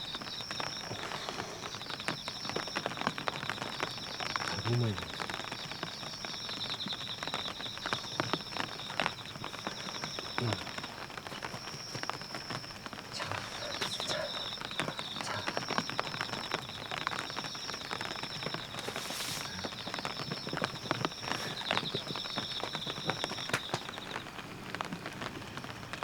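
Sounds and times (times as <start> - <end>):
rain drops tapping on a tent: 0.0 - 26.0
rain patter: 0.0 - 26.0.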